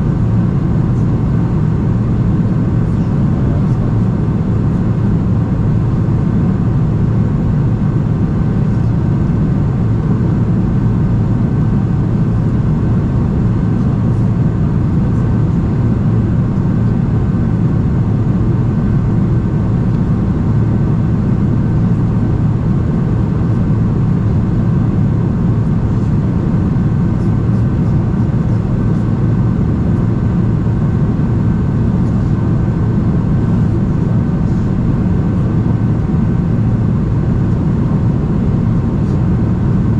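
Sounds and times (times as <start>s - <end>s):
airplane cabin engine rush: 0.0s - 39.9s
steady low hum: 0.0s - 39.9s.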